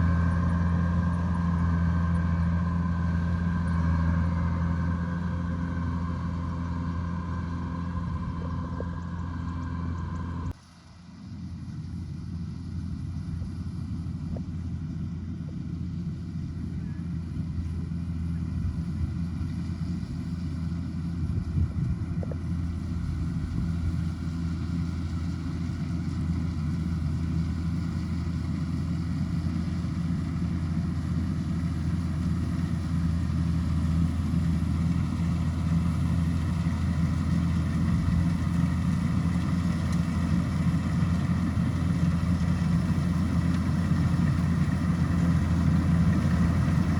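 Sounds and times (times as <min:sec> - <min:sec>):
combine harvester diesel engine: 0:00.0 - 0:46.9.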